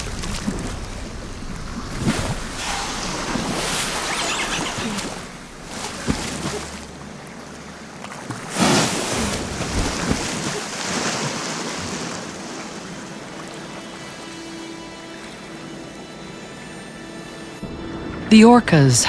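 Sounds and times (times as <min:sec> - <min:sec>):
sea water splashing: 0:00.0 - 0:19.0.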